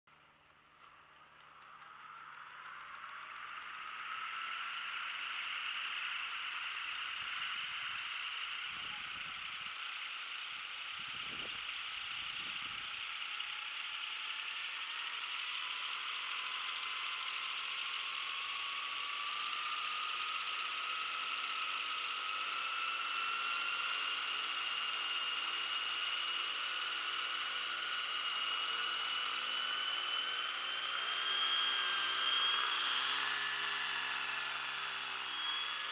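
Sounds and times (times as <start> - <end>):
model helicopter rotor whine: 0.1 - 35.9.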